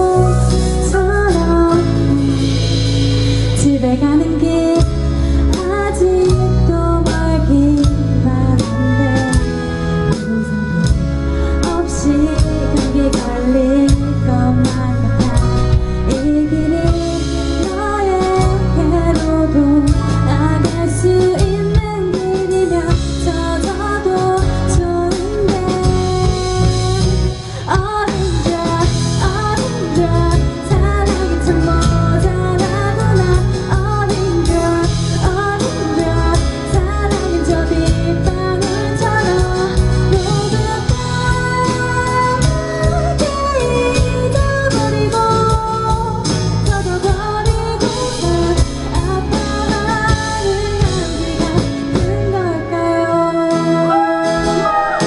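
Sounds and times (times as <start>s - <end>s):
live band playing: 0.0s - 55.0s
woman singing pop ballad: 0.0s - 55.0s.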